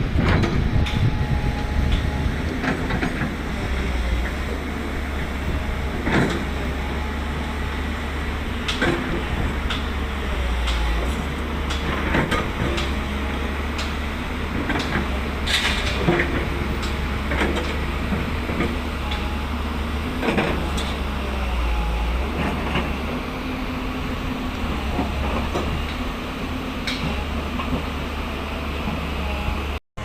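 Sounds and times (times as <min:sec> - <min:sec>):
low engine noise: 0:00.0 - 0:29.8.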